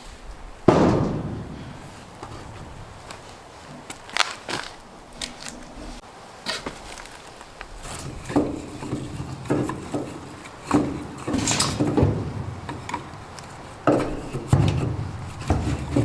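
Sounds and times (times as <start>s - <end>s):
firewood knocking together: 0.7s - 5.5s, 8.0s - 16.0s.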